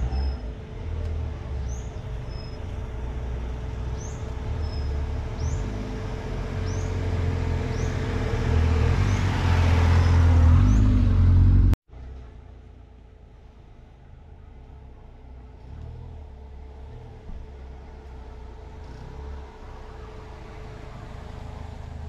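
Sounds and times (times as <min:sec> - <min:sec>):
car driving on dirt track: 0:00.0 - 0:22.0.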